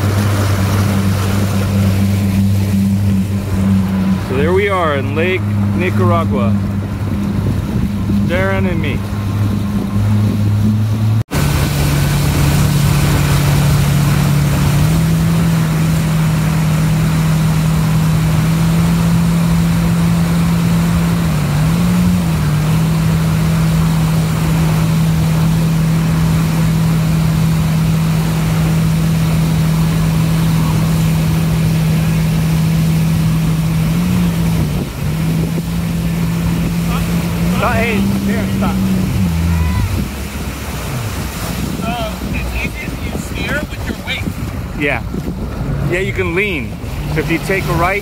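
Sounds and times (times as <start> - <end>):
jet ski engine running: 0.0 - 48.0
wind and water rush: 0.0 - 48.0.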